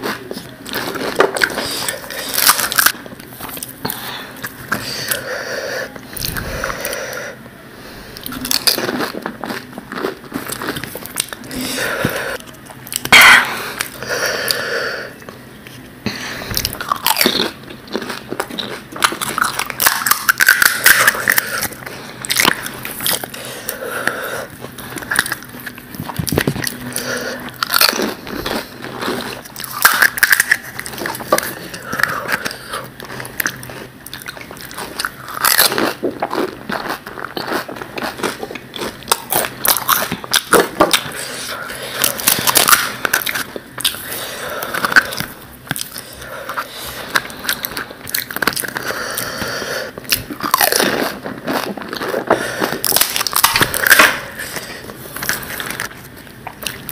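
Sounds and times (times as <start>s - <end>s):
crunching and chewing crisp shells: 0.0s - 7.4s, 8.1s - 56.9s.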